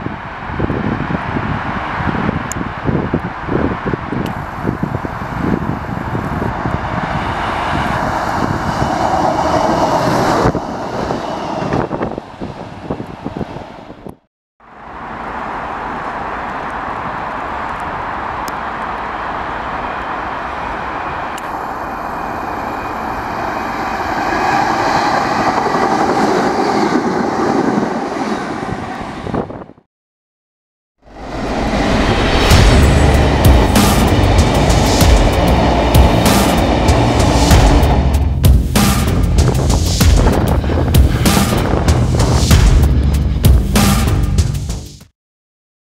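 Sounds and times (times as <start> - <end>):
diesel train running through: 0.0 - 29.8, 31.0 - 45.0
passenger train passing: 0.0 - 29.8, 31.0 - 44.7.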